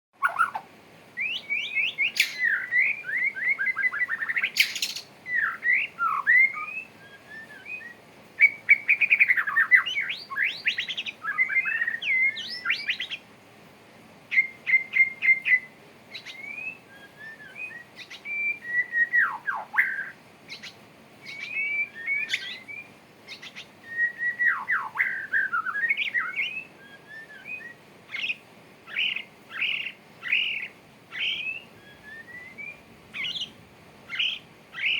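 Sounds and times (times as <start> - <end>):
bird singing whistles and trills: 0.2 - 13.2, 14.3 - 34.9.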